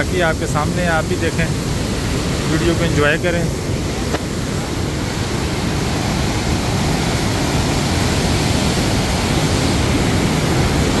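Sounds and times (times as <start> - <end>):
turbulent water rushing: 0.0 - 11.0.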